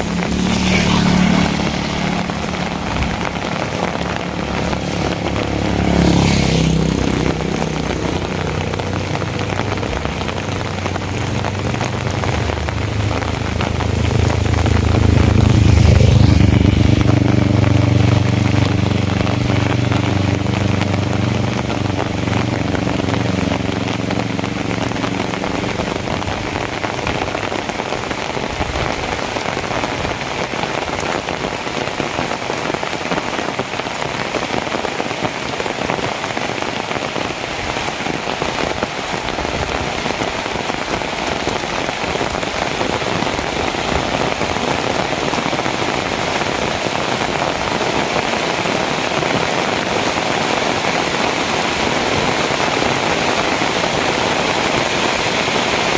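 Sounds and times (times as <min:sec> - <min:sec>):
heavy rain on hard surfaces: 0:00.0 - 0:55.9.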